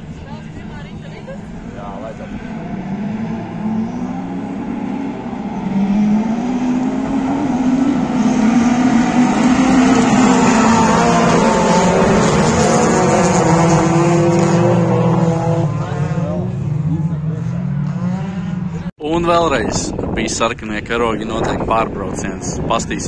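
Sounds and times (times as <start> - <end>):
race car engines revving: 0.0 - 20.2.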